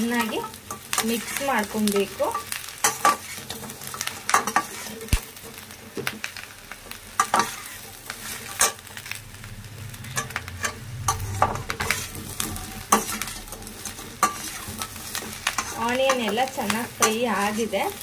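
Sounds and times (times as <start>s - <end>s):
hot oil sizzling: 0.0s - 18.0s.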